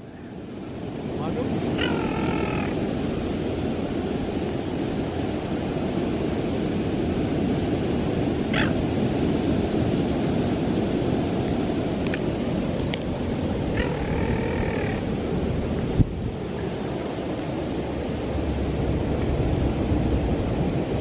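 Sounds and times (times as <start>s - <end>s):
surf washing on a beach: 0.0s - 21.0s
wind buffeting microphone: 0.8s - 21.0s.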